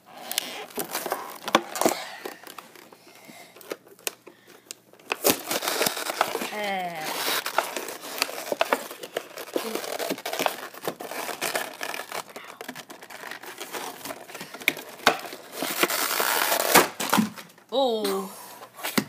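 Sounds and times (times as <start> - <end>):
plastic packaging crinkling and tearing: 0.0 - 17.7.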